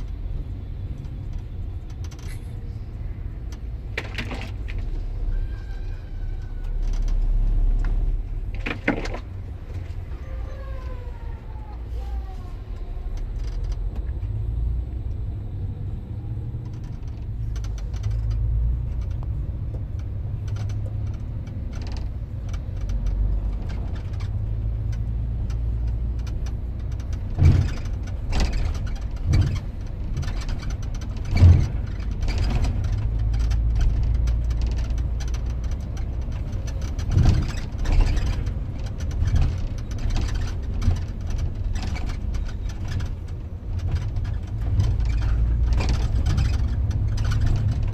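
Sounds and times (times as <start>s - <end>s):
sharp knocks and rattles: 0.0s - 5.8s, 6.4s - 10.1s, 16.5s - 47.9s
bus engine rumble: 0.0s - 47.9s.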